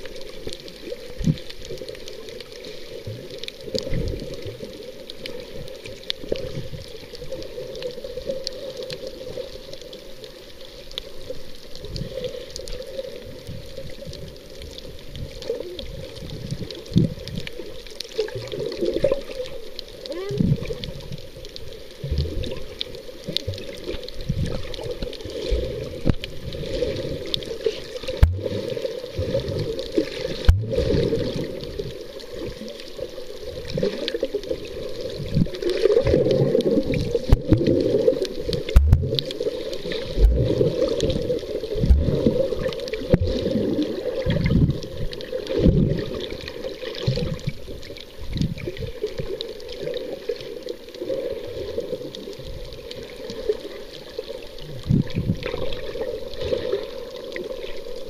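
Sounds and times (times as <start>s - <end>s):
water gurgling underwater: 0.0s - 58.0s.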